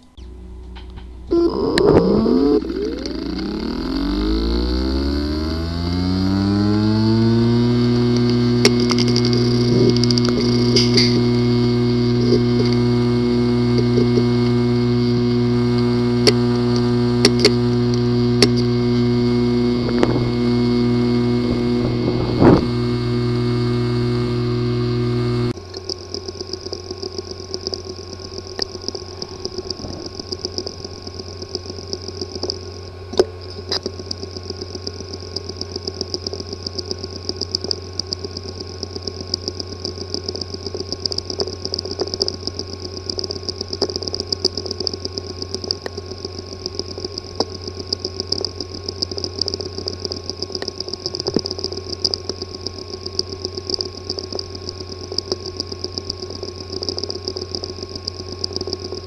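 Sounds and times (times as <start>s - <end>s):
hard drive hum and whine: 0.0s - 59.0s
hard drive ticking: 0.0s - 59.0s.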